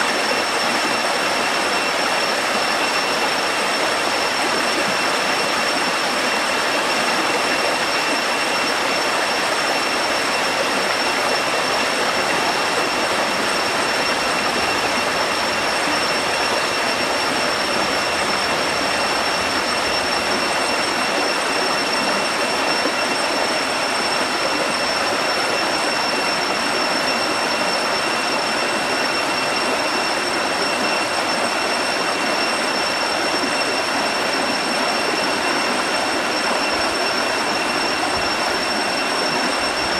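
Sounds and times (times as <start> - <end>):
high-pitched whine: 0.0 - 39.9.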